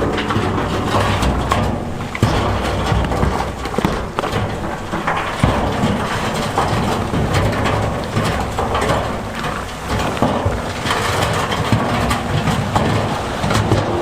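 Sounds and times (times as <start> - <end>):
stone and steel clattering: 0.0 - 14.0.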